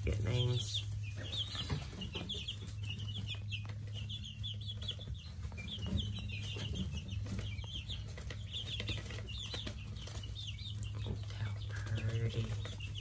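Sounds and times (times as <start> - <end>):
chicks peeping: 0.0 - 13.0
steady low hum: 0.0 - 13.0.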